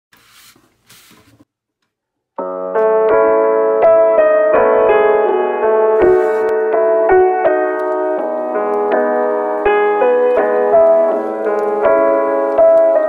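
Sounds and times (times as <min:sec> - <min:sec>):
background piano music: 0:02.4 - 0:13.0.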